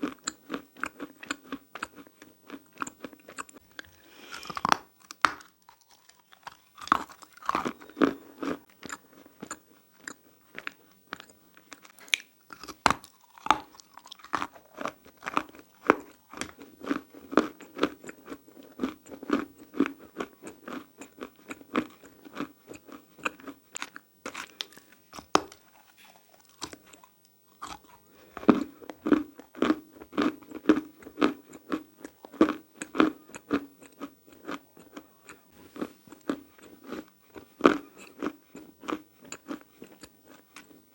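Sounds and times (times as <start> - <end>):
chewing crunchy chalk: 0.0 - 40.9.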